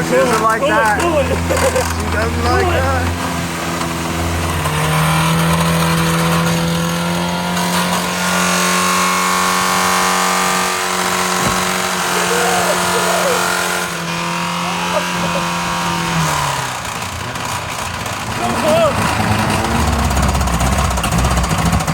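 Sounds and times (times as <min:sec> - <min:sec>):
car engine straining at high revs: 0:00.0 - 0:21.9.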